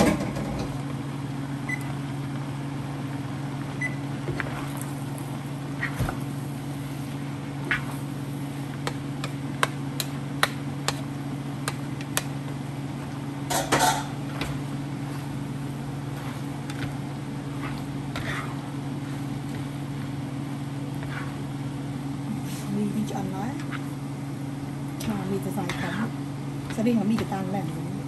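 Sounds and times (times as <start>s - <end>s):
low kitchen appliance hum: 0.0s - 28.0s.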